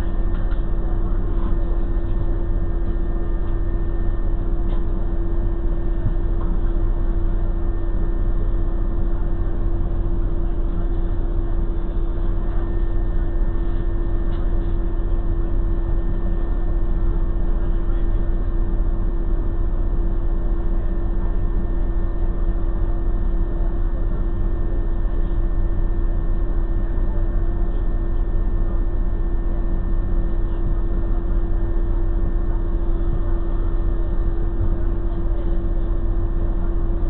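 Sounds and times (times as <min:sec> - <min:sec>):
engine idling with low drone: 0:00.0 - 0:37.0.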